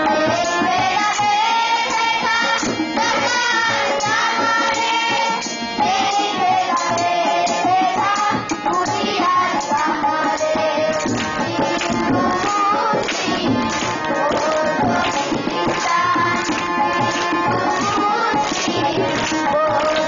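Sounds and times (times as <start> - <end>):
children singing together: 0.0 - 20.0
harmonium: 0.0 - 20.0
steady drum beat: 0.0 - 20.0.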